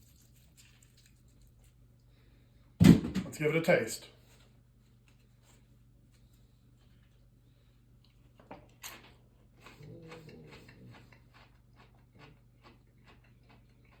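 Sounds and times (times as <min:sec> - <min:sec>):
faint crunchy chewing: 0:00.0 - 0:02.1, 0:04.4 - 0:14.0.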